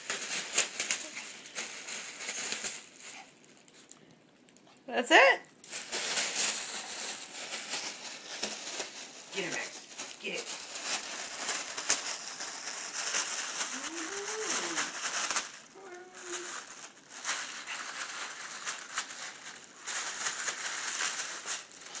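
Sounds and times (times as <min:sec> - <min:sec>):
foil balloon crinkling: 0:00.0 - 0:04.5, 0:05.5 - 0:22.0.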